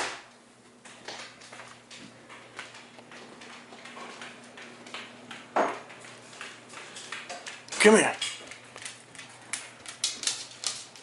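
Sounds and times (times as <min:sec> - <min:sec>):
footsteps on hardwood floor: 0:00.7 - 0:11.0.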